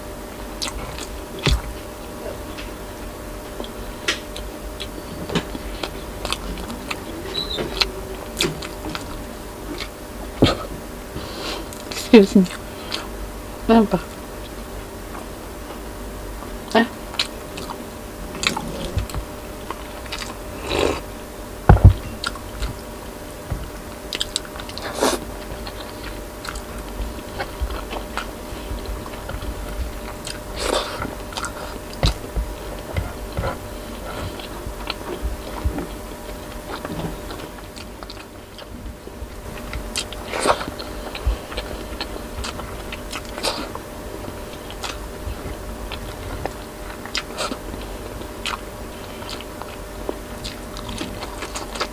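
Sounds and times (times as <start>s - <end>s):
person chewing: 0.5s - 13.2s, 16.4s - 21.2s, 21.8s - 51.9s.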